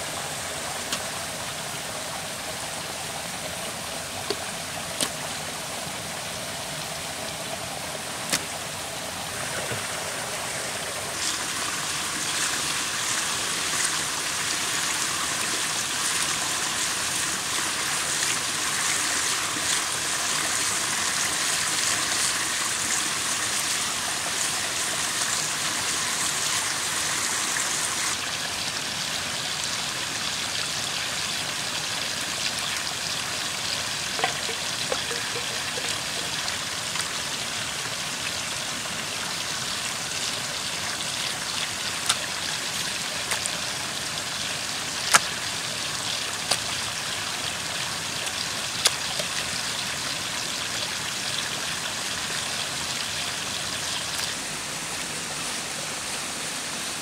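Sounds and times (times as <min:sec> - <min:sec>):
forest stream cascading: 0:00.0 - 0:57.0.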